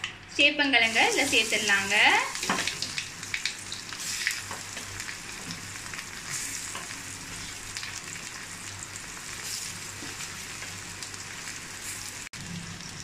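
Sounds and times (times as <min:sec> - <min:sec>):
slices sizzling in hot oil: 0:00.4 - 0:13.0.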